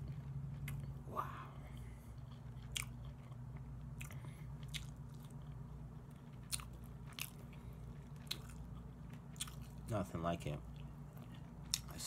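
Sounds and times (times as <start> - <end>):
chewing soft food: 0.0 - 12.0
low hum: 0.0 - 12.0.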